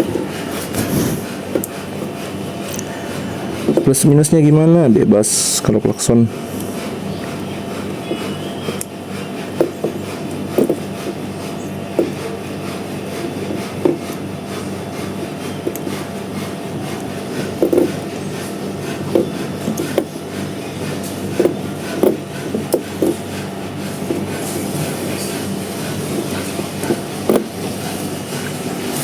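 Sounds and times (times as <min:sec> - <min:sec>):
hands knocking and rubbing parts: 0:00.0 - 0:04.7, 0:06.8 - 0:29.0
steady low hum: 0:00.0 - 0:29.0.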